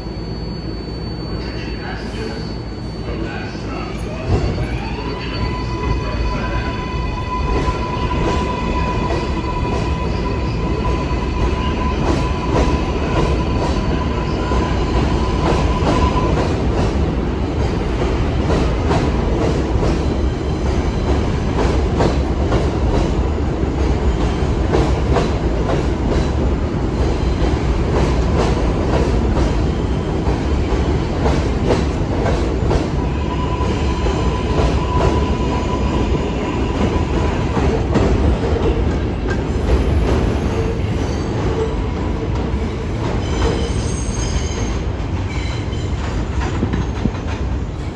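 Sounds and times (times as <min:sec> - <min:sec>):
subway train high whine: 0:00.0 - 0:47.9.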